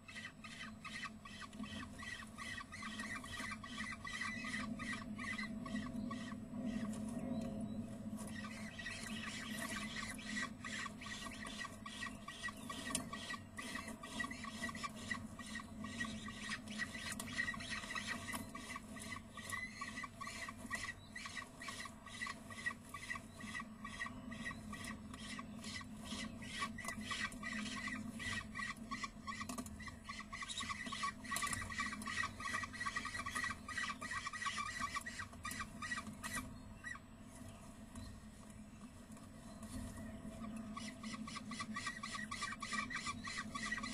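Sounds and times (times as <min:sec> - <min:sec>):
falcon chicks calling: 0:00.0 - 0:07.4, 0:08.2 - 0:37.1, 0:40.3 - 0:43.9
steady low hum: 0:00.0 - 0:43.9.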